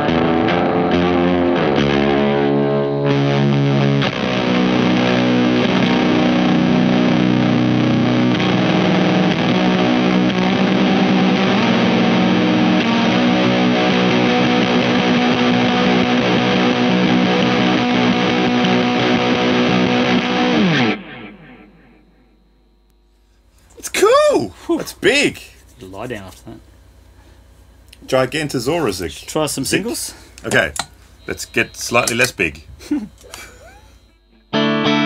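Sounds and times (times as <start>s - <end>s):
fuzzed electric guitar chords: 0.0s - 23.4s, 30.2s - 35.0s.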